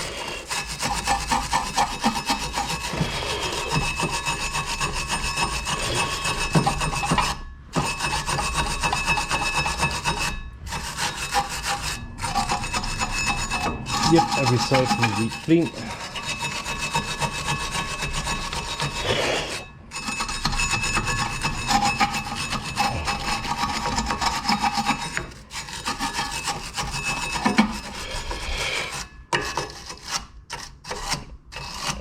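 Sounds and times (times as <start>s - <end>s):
stiff brush scrubbing metal: 0.0s - 32.0s.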